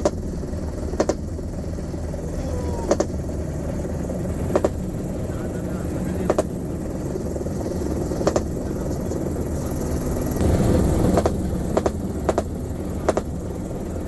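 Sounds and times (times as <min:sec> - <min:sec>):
helicopter rotor and turbine rumble: 0:00.0 - 0:14.0.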